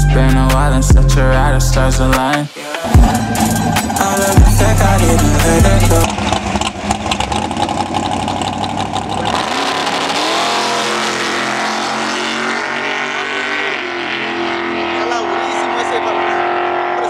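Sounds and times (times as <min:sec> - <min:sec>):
exhaust crackling: 0:00.2 - 0:17.0
drag car engine roaring: 0:01.3 - 0:17.0.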